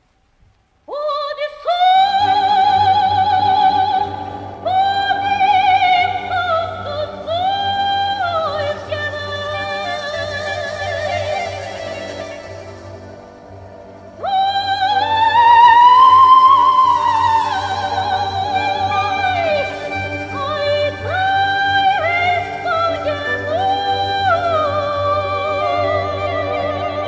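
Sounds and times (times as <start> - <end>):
quiet accompaniment: 0.0 - 27.0
woman singing with vibrato: 0.9 - 13.3, 13.9 - 27.0.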